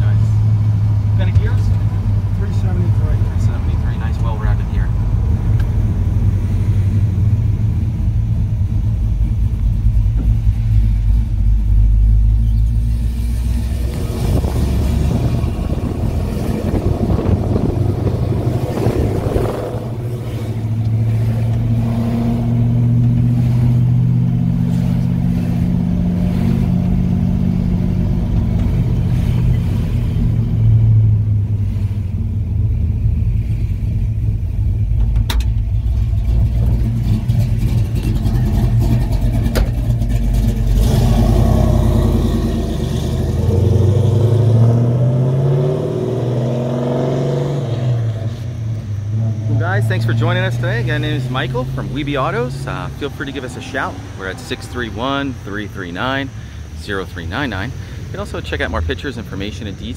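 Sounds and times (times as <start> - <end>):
truck engine exhaust rumble: 0.0 - 59.9.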